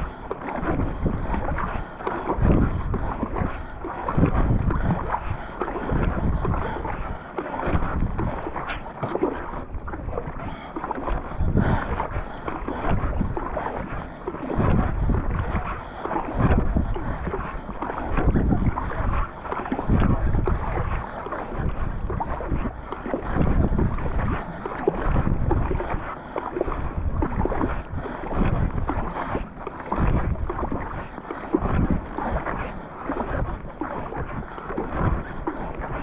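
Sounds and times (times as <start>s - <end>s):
paddle splashing through water: 0.0s - 36.0s
wind noise on microphone: 0.0s - 36.0s.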